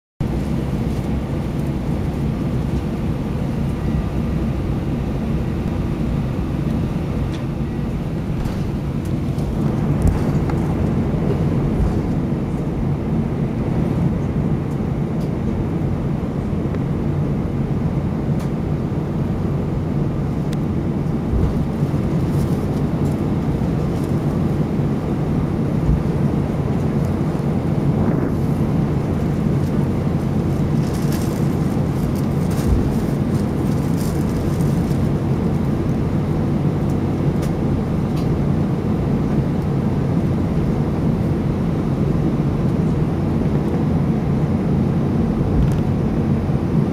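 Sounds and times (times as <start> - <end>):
jet engine and runway rumble: 0.2 - 46.9.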